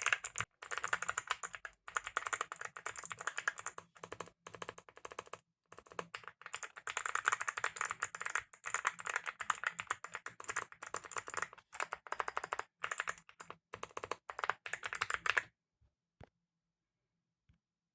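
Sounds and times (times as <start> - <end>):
mechanical keyboard typing clicks: 0.0 - 15.5.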